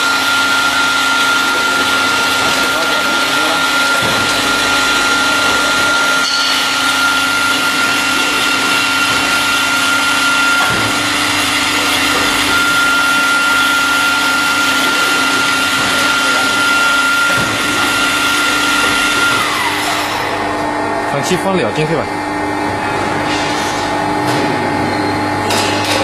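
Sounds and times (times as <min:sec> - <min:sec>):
cutting machine running: 0:00.0 - 0:26.0.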